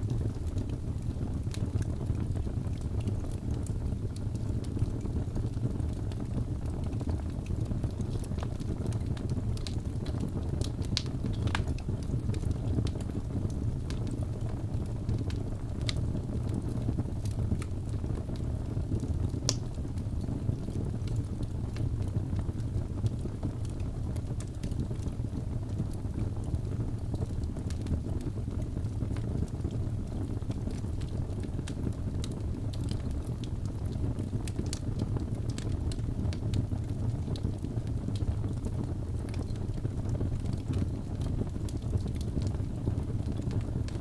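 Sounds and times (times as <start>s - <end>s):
fire crackling with pops: 0.0s - 44.0s
low rumble of flames: 0.0s - 44.0s.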